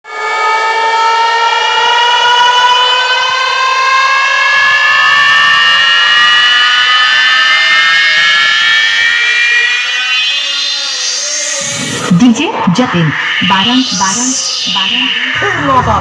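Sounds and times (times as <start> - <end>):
rising electronic siren tone: 0.0 - 16.0.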